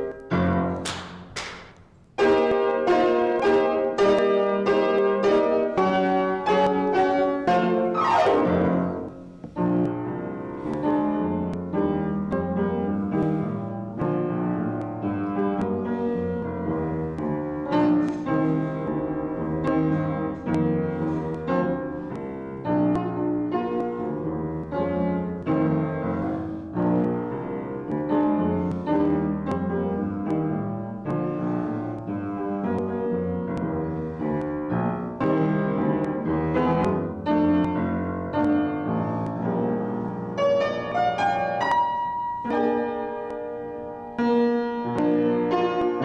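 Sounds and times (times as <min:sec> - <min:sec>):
classical piano piece: 0:00.0 - 0:46.0.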